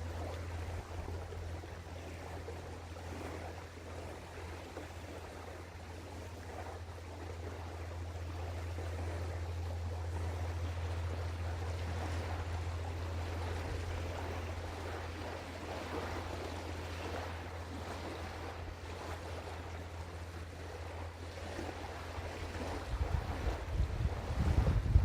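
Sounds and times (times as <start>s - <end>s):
constant low hum: 0.0s - 25.0s
river water: 0.0s - 25.0s
wind: 0.0s - 25.0s.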